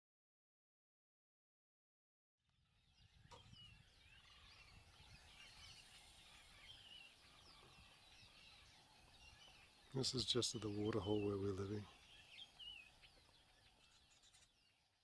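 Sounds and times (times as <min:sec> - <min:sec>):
birds chirping and warbling: 0:02.5 - 0:15.0.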